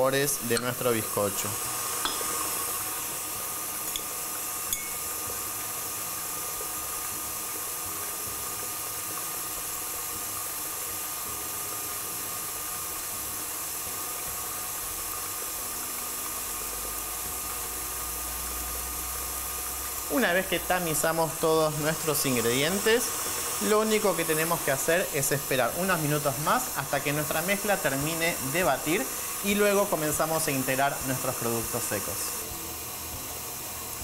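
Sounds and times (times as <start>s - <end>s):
stand mixer running: 5.2s - 34.0s.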